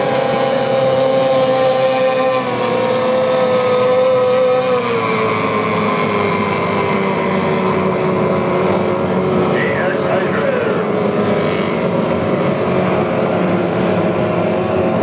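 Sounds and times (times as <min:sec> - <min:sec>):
outboard engines whining: 0:00.0 - 0:15.0.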